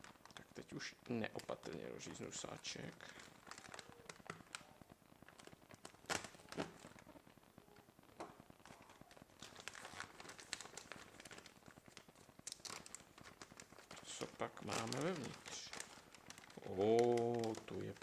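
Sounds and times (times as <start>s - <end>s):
bag crinkling and rustling: 0.0s - 18.0s.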